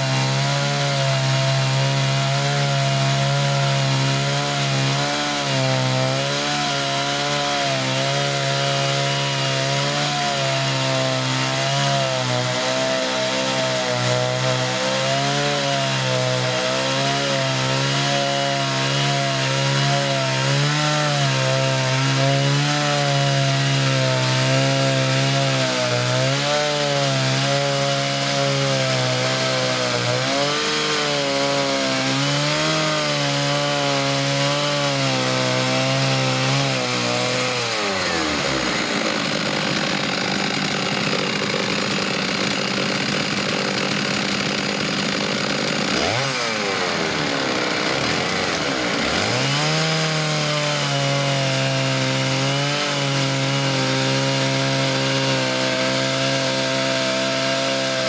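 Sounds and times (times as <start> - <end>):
chainsaws cutting through log: 0.0 - 58.0.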